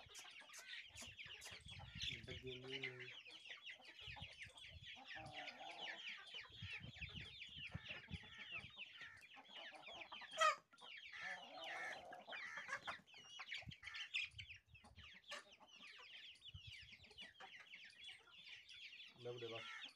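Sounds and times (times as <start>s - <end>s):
chicks peeping: 0.0s - 19.9s
hens clucking: 0.0s - 19.9s.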